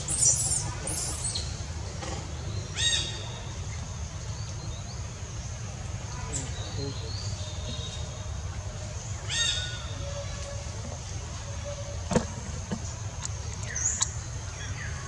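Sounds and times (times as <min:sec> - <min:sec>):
faint high whine: 0:02.7 - 0:15.0.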